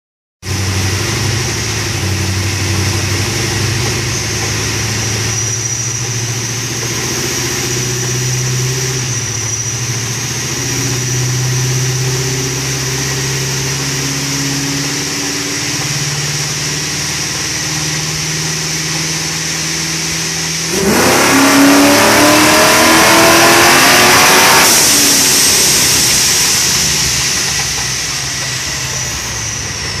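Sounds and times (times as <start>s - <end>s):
high supercharger whine: 0.4s - 30.0s
car engine revving on dyno: 0.5s - 30.0s.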